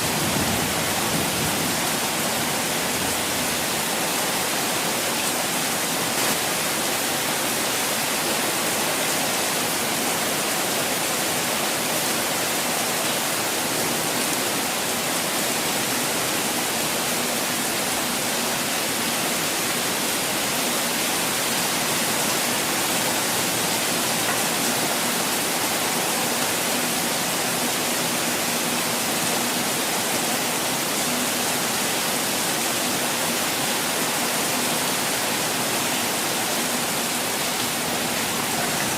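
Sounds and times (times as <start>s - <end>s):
falling water rushing: 0.0s - 38.9s.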